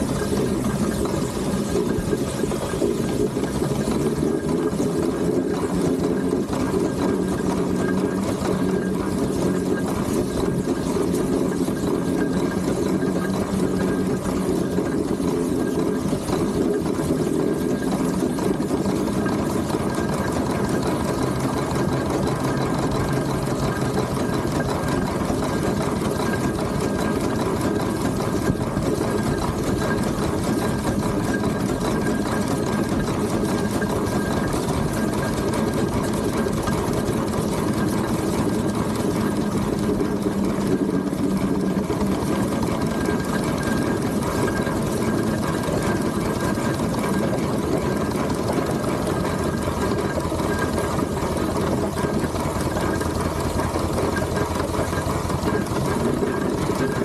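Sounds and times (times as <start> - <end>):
steam engine mechanical clatter: 0.0 - 57.0.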